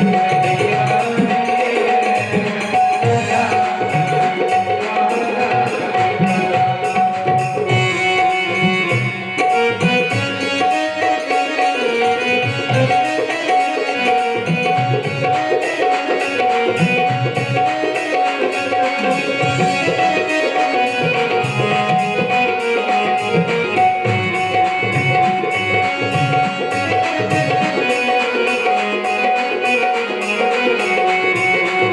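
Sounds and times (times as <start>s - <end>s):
tabla rhythm: 0.0s - 31.9s.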